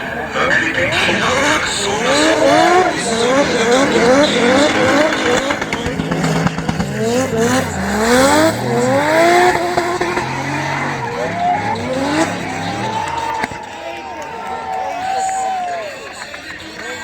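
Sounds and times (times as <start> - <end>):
car engines revving hard: 0.0 - 14.5
tyre skid noise: 0.0 - 15.4.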